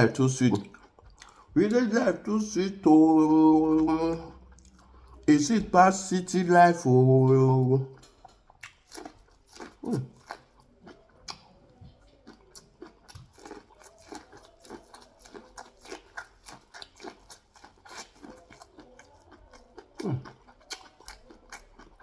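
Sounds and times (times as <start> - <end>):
chewing crunchy food: 0.0 - 22.0.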